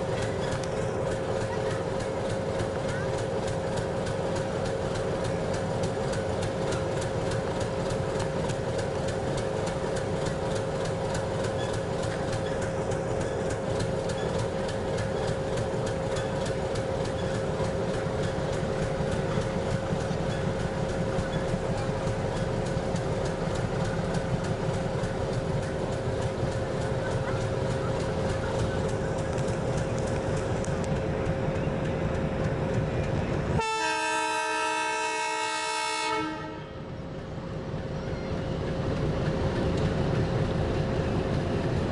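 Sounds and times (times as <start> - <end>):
diesel locomotive engine droning: 0.0 - 41.9.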